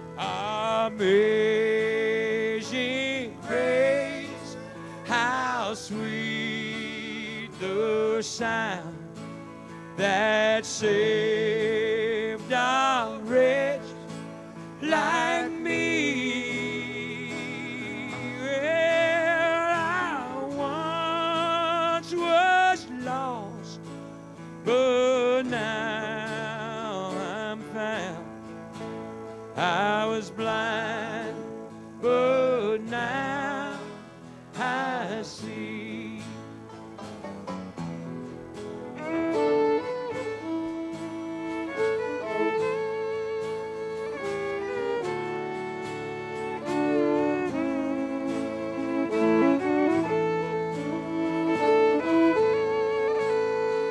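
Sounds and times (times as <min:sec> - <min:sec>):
acoustic guitar: 0:00.0 - 0:53.9
fiddle melody: 0:00.0 - 0:53.9.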